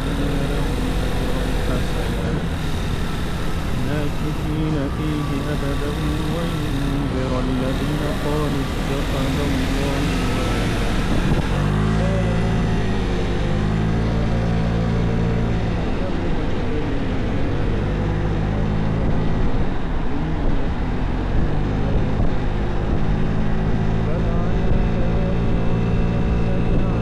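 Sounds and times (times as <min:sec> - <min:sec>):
scooter engine running: 0:00.0 - 0:21.8
wind and road noise: 0:00.0 - 0:27.0.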